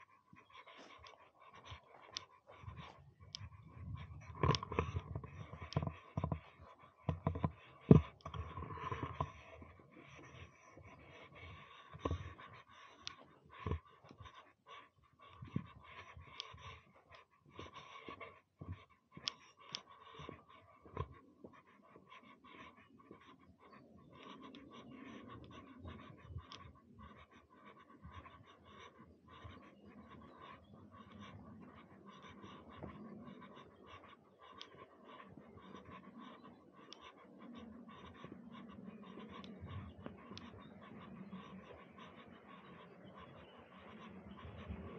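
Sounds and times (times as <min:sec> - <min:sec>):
faint outdoor background: 0:00.0 - 0:44.9.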